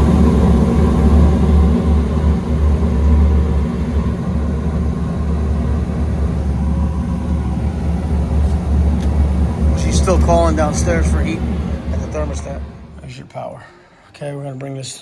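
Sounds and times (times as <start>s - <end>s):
rooftop air conditioner fan rumbling: 0.0s - 15.0s.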